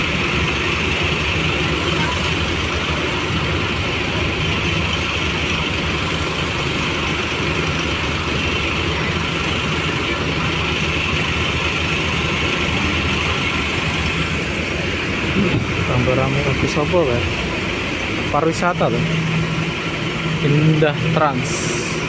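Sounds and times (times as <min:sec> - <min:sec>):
diesel coach engines idling: 0:00.0 - 0:22.0.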